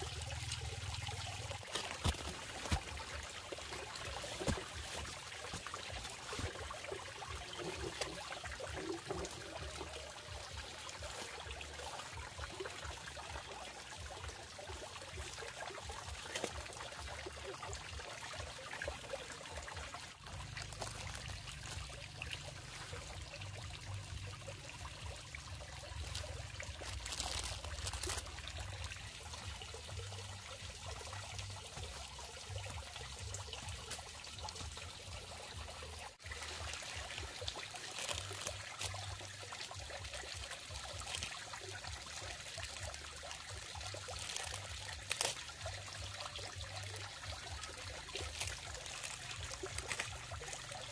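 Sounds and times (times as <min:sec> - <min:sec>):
water trickling and pouring: 0:00.0 - 0:50.9.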